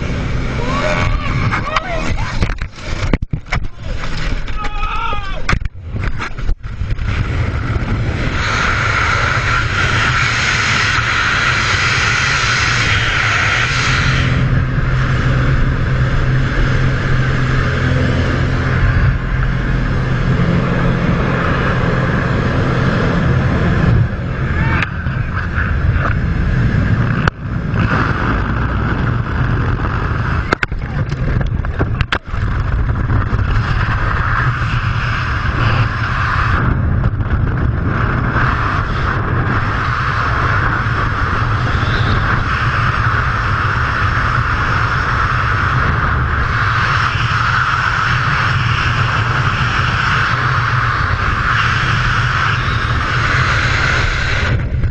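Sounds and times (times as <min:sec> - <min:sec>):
small plane engine: 0:00.0 - 0:04.7, 0:05.6 - 0:54.9
wind buffeting microphone: 0:00.0 - 0:54.9.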